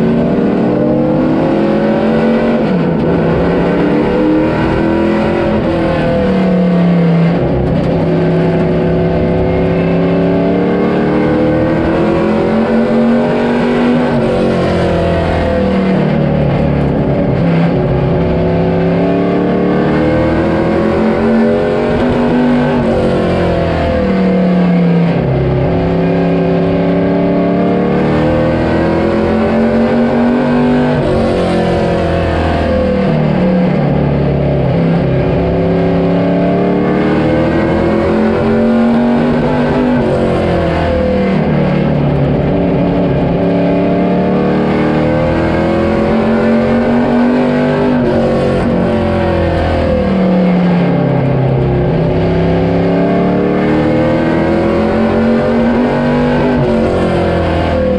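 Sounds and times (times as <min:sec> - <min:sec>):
vehicle engine running loudly: 0:00.0 - 0:57.9.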